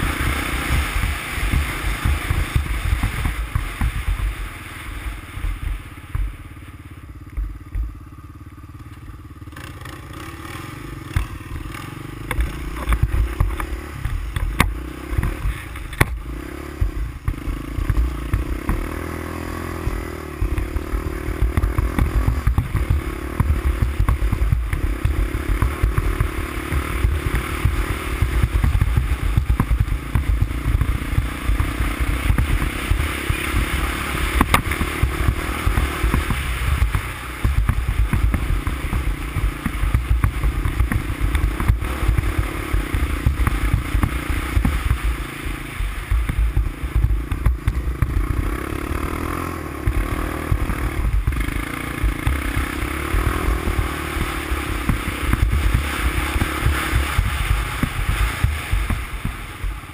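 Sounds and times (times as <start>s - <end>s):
motorbike engine revving: 0.0s - 59.9s
clatter: 7.2s - 59.9s.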